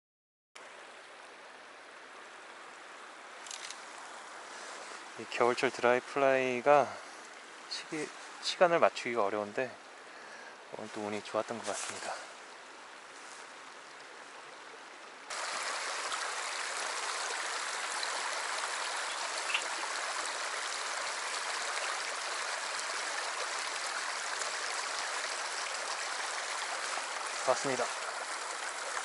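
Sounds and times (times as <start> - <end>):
stream rushing over rocks: 0.6 - 29.0.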